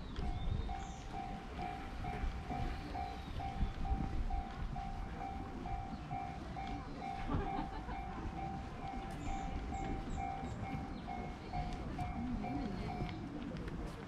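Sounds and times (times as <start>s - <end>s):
level crossing alarm ringing: 0.0s - 13.3s.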